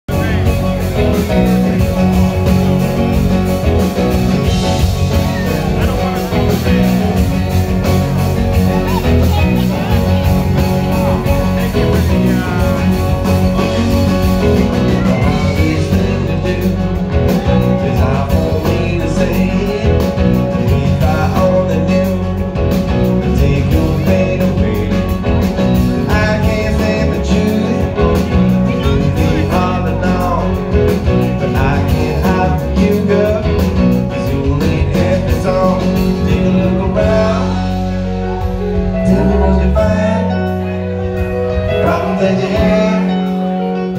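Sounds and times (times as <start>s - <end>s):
bass: 0.0s - 43.9s
drums: 0.0s - 43.9s
electric guitar: 0.1s - 43.9s.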